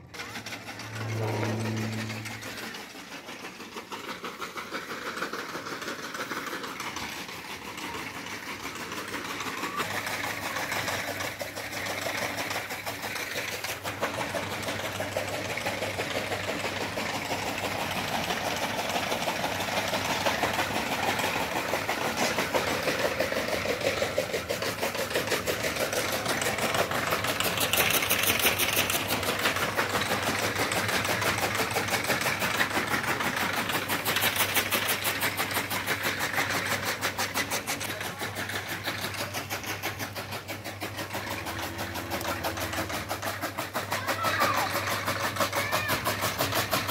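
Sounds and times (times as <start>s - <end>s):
small engine clattering: 0.0s - 46.9s.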